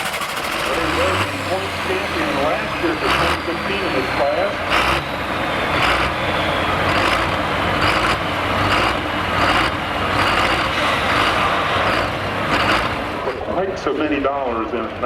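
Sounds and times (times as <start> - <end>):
tractor diesel engine roaring: 0.0 - 15.0.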